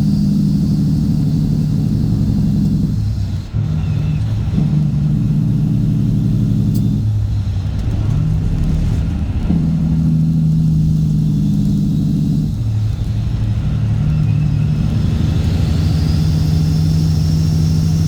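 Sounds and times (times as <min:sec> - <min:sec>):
diesel truck exhaust: 0:00.0 - 0:18.0.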